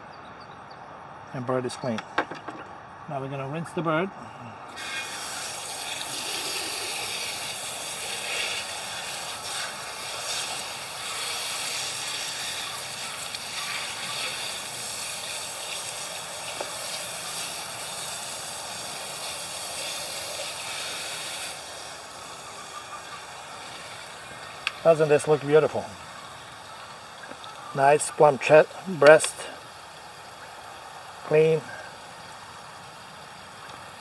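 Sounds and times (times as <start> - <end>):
hose water spraying: 4.7 - 34.0.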